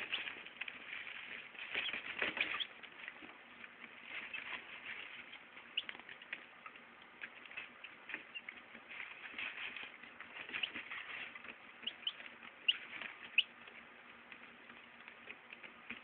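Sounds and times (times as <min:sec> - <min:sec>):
chicks peeping: 0:00.0 - 0:16.0
faint rustle of wood shavings: 0:00.0 - 0:16.0.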